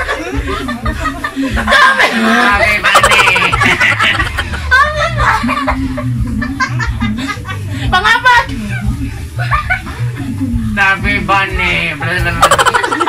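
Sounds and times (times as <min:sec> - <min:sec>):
people laughing and snickering: 0:00.0 - 0:13.0.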